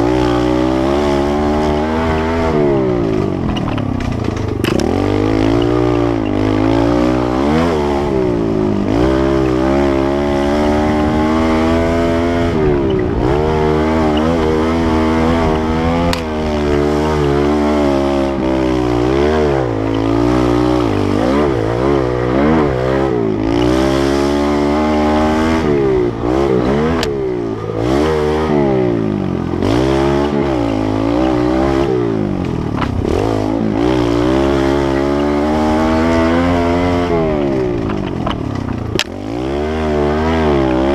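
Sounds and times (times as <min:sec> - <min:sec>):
small motorbike engine revving: 0:00.0 - 0:40.9.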